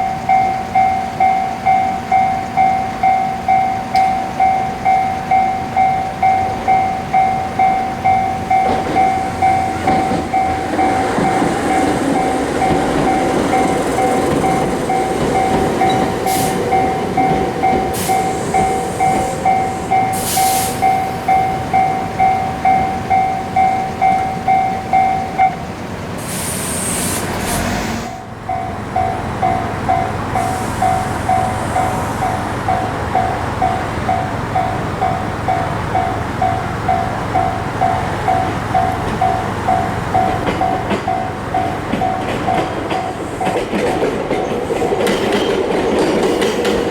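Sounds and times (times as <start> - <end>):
lower doubled crossing bell: 0.0 - 25.6, 28.4 - 43.6
level crossing alarm bell: 0.0 - 25.8, 28.2 - 43.7
electric train rumbling past: 0.0 - 46.9.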